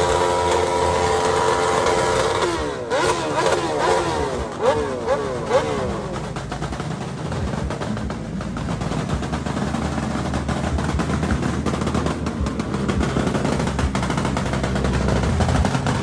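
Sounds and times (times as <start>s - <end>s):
motorcycle engine running: 0.0s - 16.0s
motorcycle exhaust backfiring pops: 0.0s - 16.0s.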